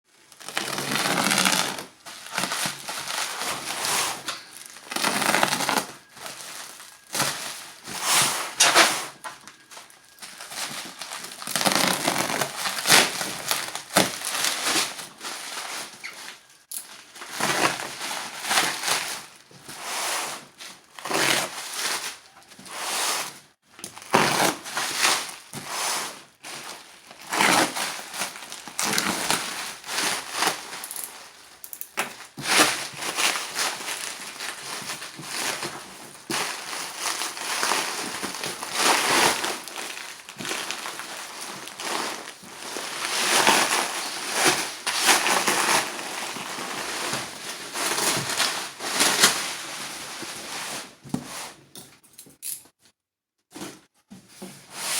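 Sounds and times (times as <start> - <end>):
packaging crinkling: 0.2 - 19.6, 26.4 - 51.0.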